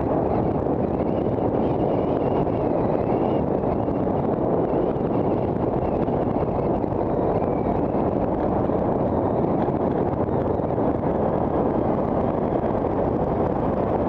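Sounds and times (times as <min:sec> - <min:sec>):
wind rush on microphone: 0:00.0 - 0:14.0.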